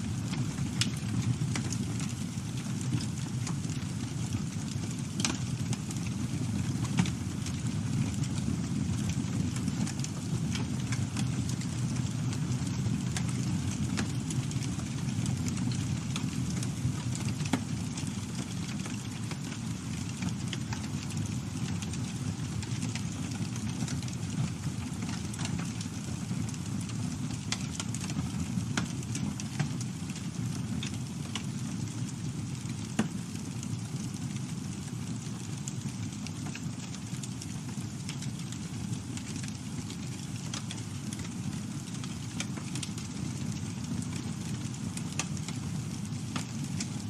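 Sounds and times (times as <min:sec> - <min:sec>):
burning wood crackling and popping: 0:00.0 - 0:47.0
fire flames rumbling: 0:00.0 - 0:47.0.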